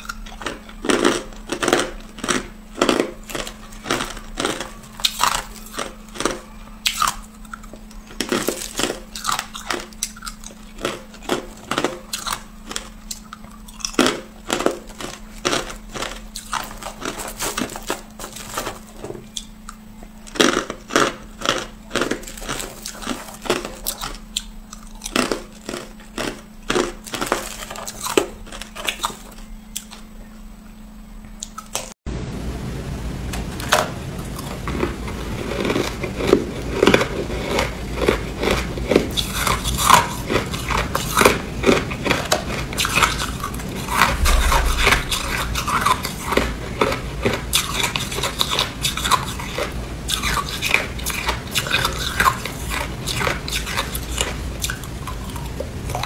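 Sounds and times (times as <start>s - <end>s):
chewing ice crunches: 0.0s - 30.0s, 34.4s - 56.0s.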